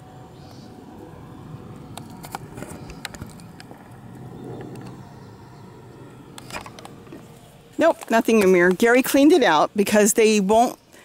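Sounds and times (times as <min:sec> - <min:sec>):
steady low background rumble: 0:00.0 - 0:10.9.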